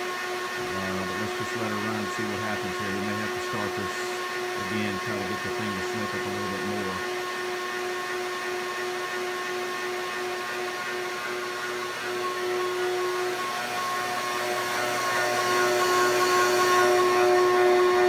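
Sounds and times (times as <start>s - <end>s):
vacuum motor whining: 0.2s - 18.0s.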